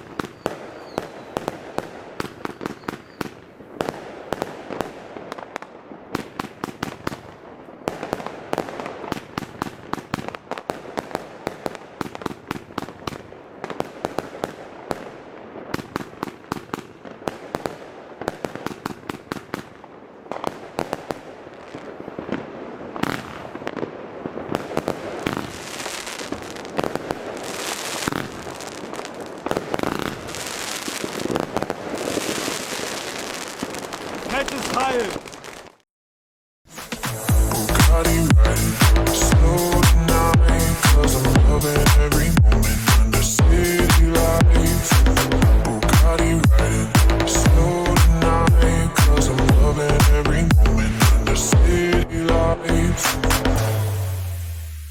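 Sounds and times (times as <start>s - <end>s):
firework shots and bangs: 0.0s - 35.8s, 36.8s - 51.7s
firework crackling: 0.0s - 35.9s, 36.7s - 51.7s, 52.7s - 54.9s.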